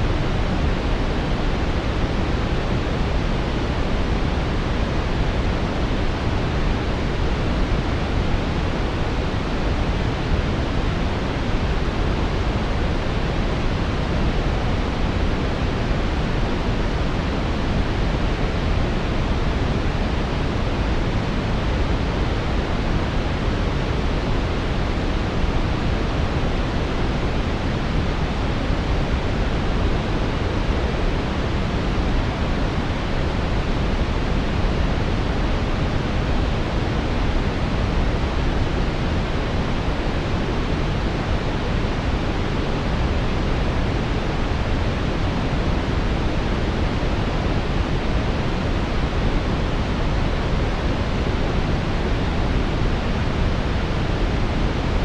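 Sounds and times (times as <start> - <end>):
deep rushing brown noise: 0.0 - 55.0.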